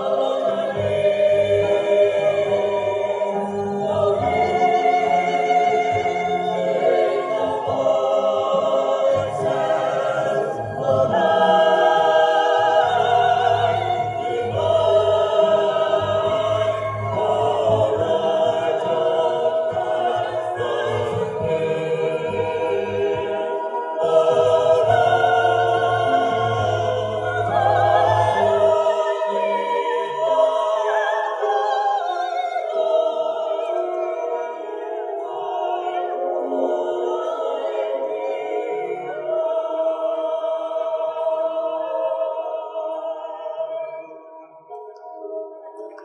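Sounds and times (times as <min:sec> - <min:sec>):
mixed choir singing: 0:00.0 - 0:46.0.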